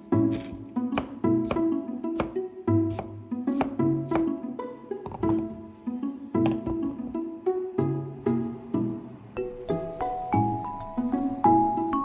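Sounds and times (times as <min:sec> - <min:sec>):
plucked pizzicato melody: 0:00.0 - 0:10.3.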